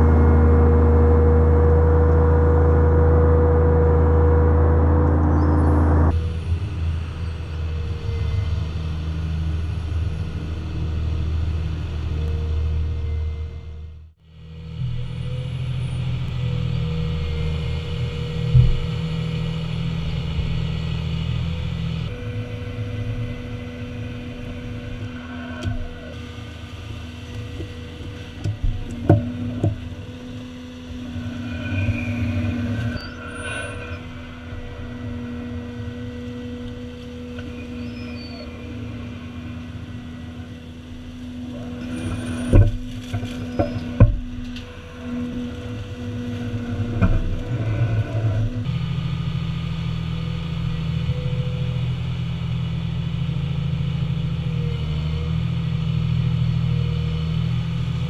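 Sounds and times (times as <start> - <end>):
dredge engine rumbling: 0.0 - 58.0.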